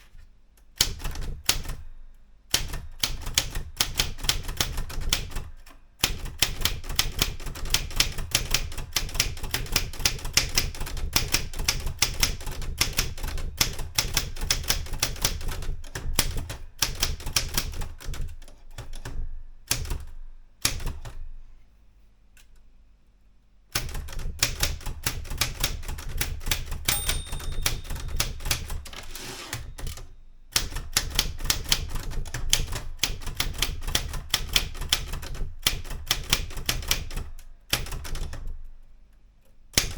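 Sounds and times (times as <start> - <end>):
typewriter keystrokes: 0.8 - 1.9, 2.5 - 21.2, 23.7 - 38.6.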